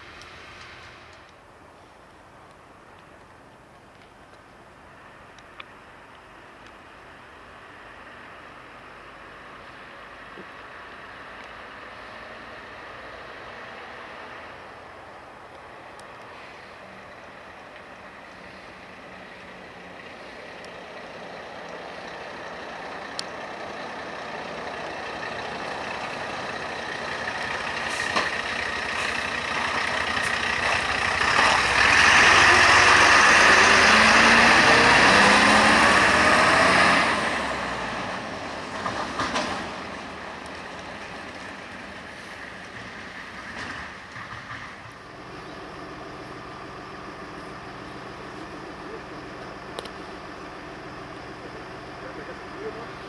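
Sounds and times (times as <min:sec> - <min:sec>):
truck diesel engine passing: 0:00.0 - 0:01.3, 0:05.8 - 0:53.0.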